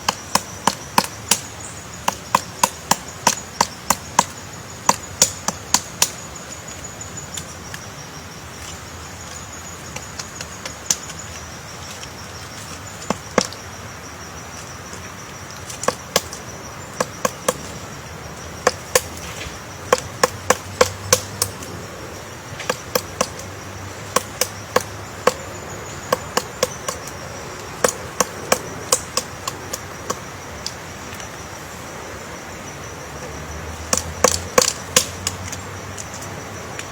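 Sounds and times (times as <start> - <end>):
woodpecker tapping on wood: 0.0 - 7.9, 8.6 - 13.8, 14.8 - 21.8, 22.5 - 31.3, 33.2 - 36.9
high-pitched insect trill: 0.0 - 36.9.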